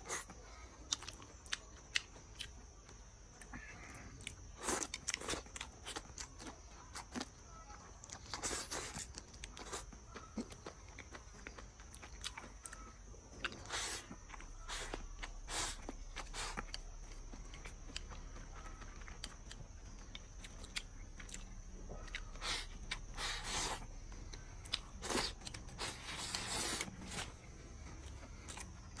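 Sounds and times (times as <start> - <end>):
person chewing and smacking: 0.0 - 3.5, 4.1 - 29.0.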